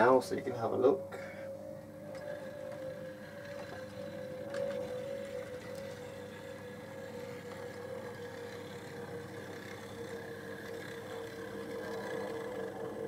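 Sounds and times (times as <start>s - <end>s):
model train motor whining: 0.0s - 13.0s.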